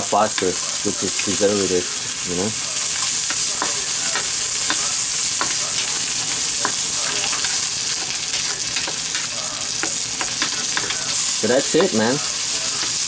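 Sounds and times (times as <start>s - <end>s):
food sizzling in a pan: 0.0s - 13.0s
utensil scraping a pan: 0.3s - 13.0s.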